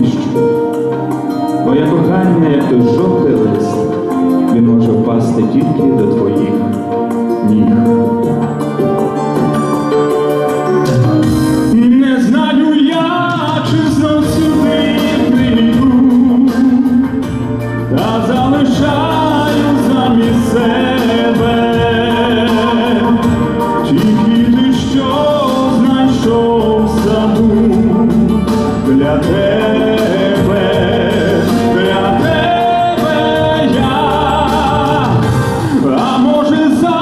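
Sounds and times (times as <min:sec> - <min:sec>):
man singing a pop ballad: 0:00.0 - 0:09.2, 0:11.5 - 0:37.0
instrumental accompaniment: 0:00.0 - 0:37.0.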